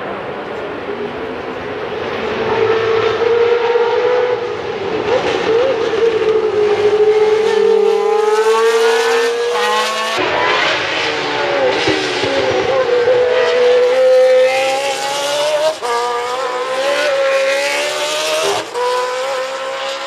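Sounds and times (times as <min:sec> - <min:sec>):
racing car engines revving: 0:00.0 - 0:20.0.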